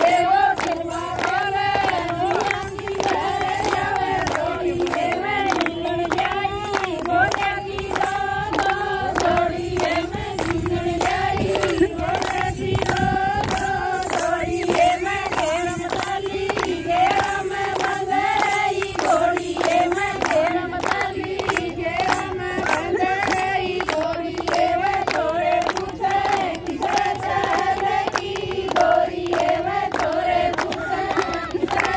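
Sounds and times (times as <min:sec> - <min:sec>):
rhythmic hand-clapping: 0:00.0 - 0:31.9
women singing a folk song: 0:00.0 - 0:31.9.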